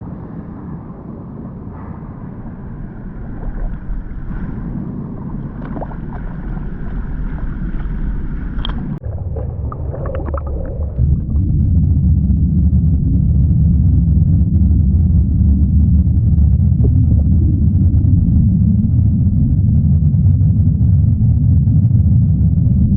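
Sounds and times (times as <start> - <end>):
water gurgling and sloshing: 0.2 - 22.9.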